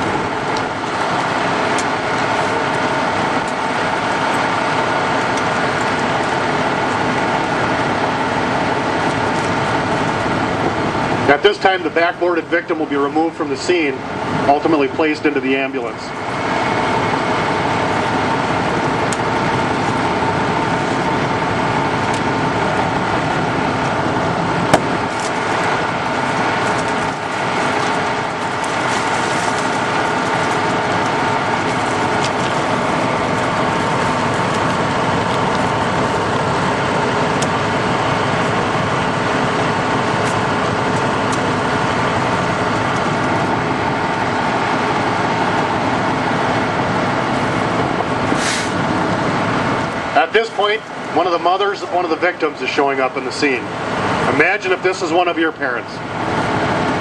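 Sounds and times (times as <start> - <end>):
steady whine: 0.0 - 57.0
vehicle engines idling: 0.0 - 57.0.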